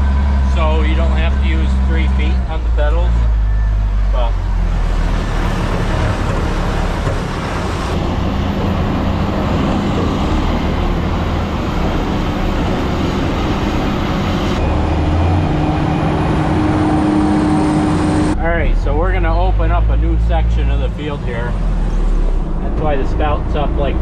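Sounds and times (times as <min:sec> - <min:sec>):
road and drivetrain noise: 0:00.0 - 0:24.0
truck engine rumbling: 0:00.0 - 0:24.0.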